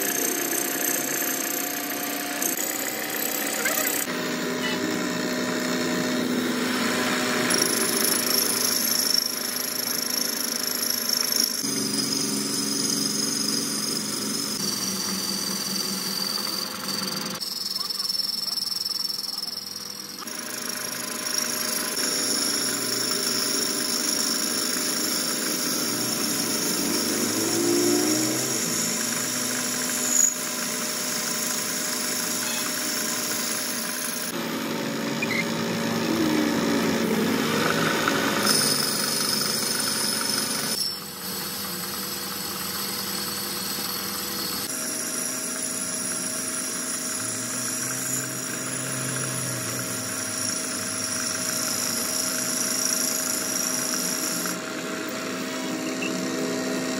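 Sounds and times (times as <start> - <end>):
metal lathe cutting: 0.0 - 56.9.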